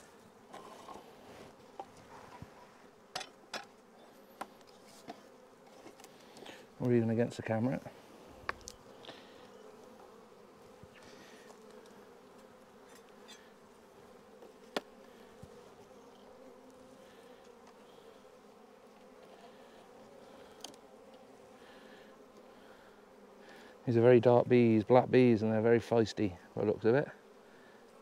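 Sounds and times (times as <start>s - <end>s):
bees buzzing: 0.0s - 28.0s.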